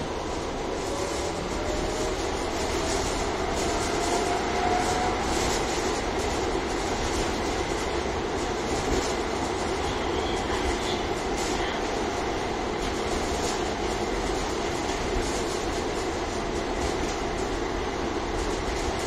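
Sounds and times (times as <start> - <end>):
tram wheels rolling on rails: 0.0 - 19.0.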